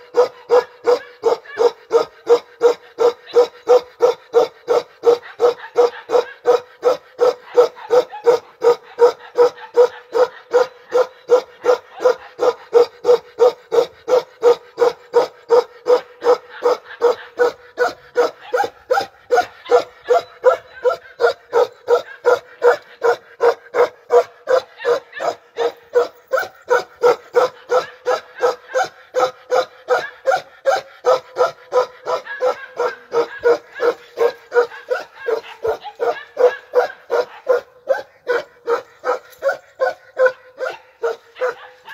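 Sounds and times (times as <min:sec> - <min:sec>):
dog barking: 0:00.0 - 0:41.9.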